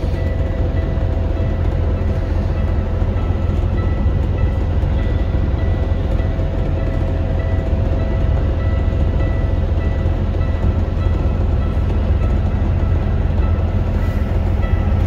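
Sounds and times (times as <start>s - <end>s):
faint steady tones: 0.0s - 15.0s.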